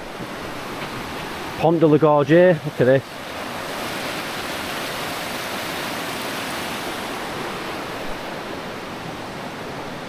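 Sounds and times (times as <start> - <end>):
river rushing over rocks: 0.0 - 10.0.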